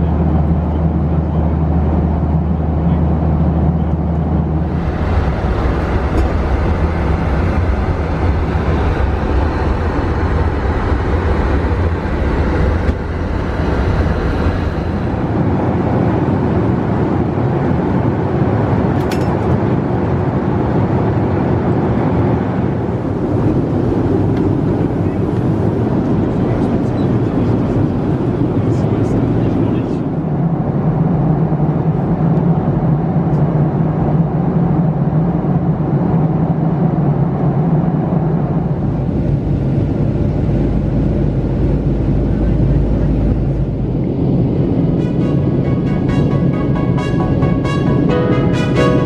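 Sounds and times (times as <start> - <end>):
jet engine cabin hum: 0.0 - 49.0
rushing engines and airflow: 0.0 - 49.0.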